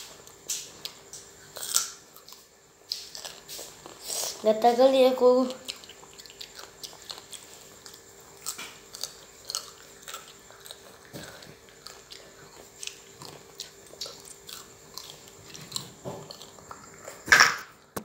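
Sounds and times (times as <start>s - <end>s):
person chewing crunchy fruit: 0.0s - 18.0s.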